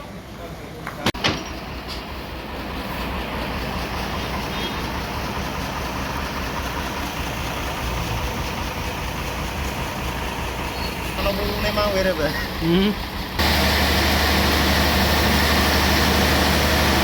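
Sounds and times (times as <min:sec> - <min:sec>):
band sawmill running: 0:01.2 - 0:17.0.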